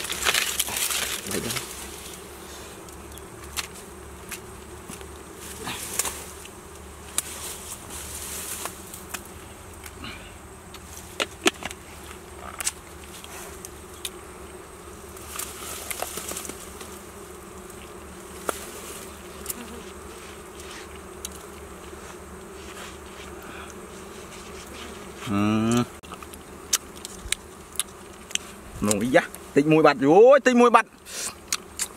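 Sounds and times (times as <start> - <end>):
rustles: 0.0 - 29.7
bees buzzing: 0.0 - 31.9.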